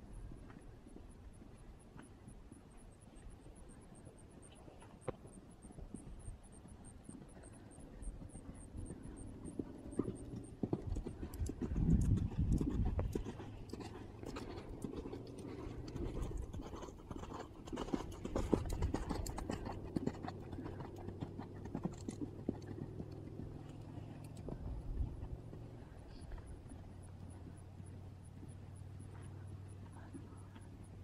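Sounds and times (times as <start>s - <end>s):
horse hoofbeats on sand: 5.1s - 31.0s.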